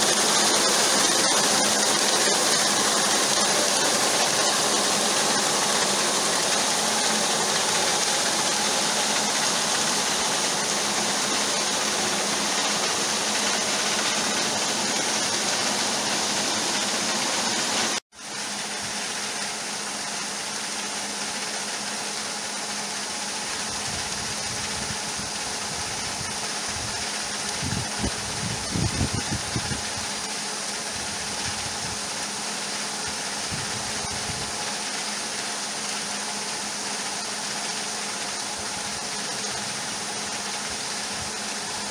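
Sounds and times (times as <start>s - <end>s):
grain auger motor humming: 0.0s - 41.9s
grain rushing and pouring: 0.0s - 41.9s.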